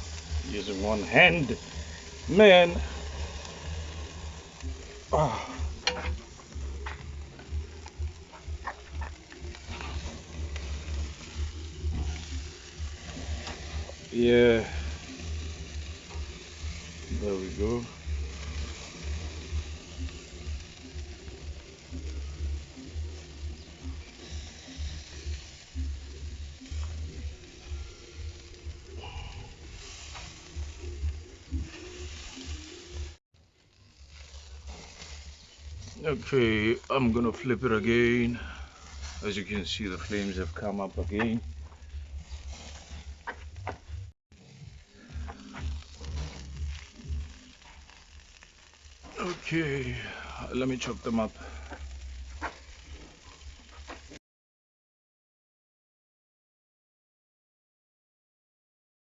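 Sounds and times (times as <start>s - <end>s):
background music: 0.0s - 54.2s
chicken sizzling over fire: 0.0s - 54.2s
fat crackling and popping: 0.0s - 54.2s.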